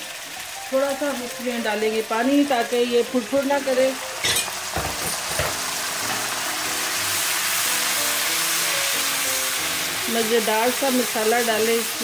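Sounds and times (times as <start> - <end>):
onions sizzling in hot oil: 0.0 - 12.0
water boiling off in pan: 0.0 - 12.0.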